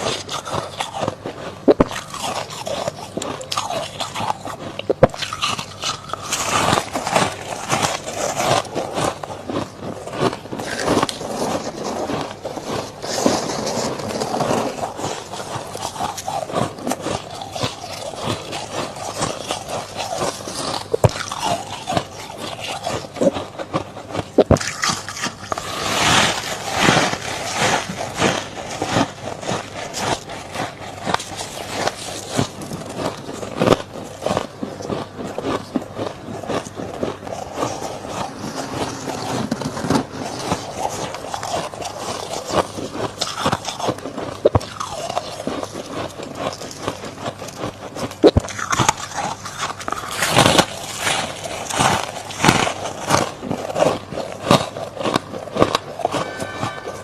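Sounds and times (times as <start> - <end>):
frost crunching being chewed: 0.0 - 57.0.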